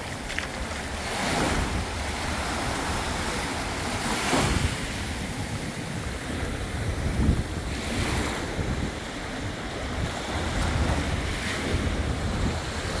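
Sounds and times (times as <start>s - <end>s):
sea waves lapping on sand: 0.0s - 13.0s
wind buffeting microphone: 0.0s - 13.0s.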